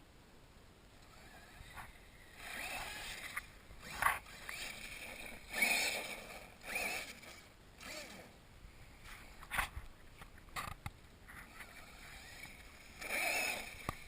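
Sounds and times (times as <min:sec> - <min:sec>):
toy truck motor whirring: 0:01.0 - 0:09.7, 0:11.4 - 0:14.0.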